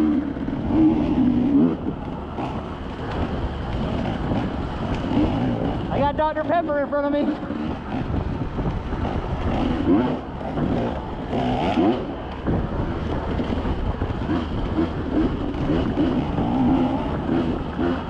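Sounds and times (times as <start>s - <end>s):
off-road vehicle engine: 0.0s - 18.0s
rumbling road noise: 0.0s - 18.0s
wind noise: 0.0s - 18.0s.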